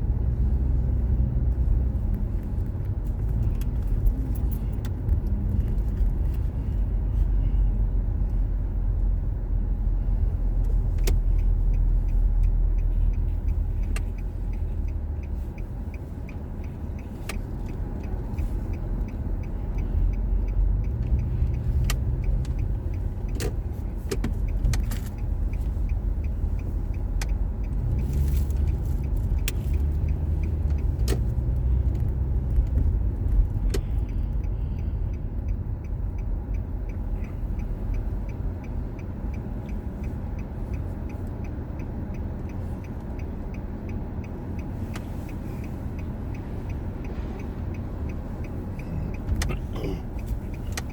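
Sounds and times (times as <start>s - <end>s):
car engine and road rumble: 0.0s - 50.9s
faint regular ticking: 0.0s - 50.9s.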